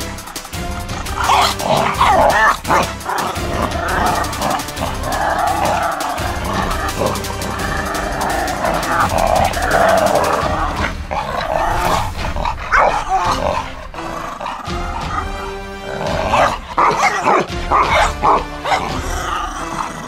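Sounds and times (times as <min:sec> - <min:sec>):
dogs barking in play: 0:00.0 - 0:13.8, 0:14.4 - 0:20.0
background music: 0:00.0 - 0:20.0.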